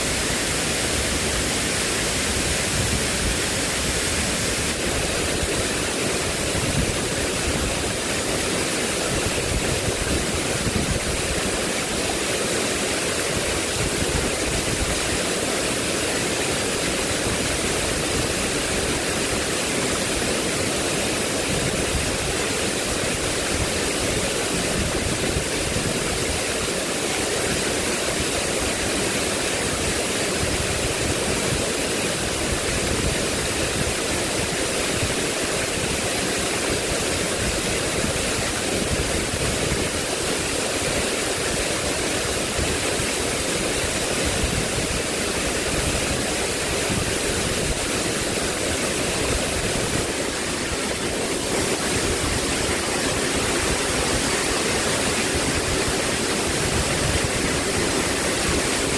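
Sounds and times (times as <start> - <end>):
rushing water: 0.0 - 58.9.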